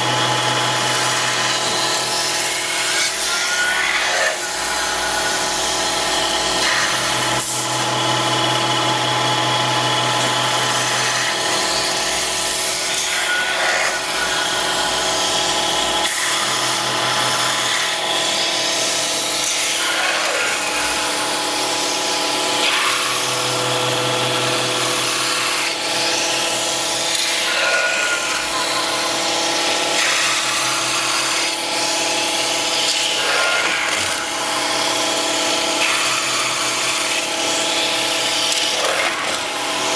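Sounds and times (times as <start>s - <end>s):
metal spinning lathe whining: 0.0s - 39.9s.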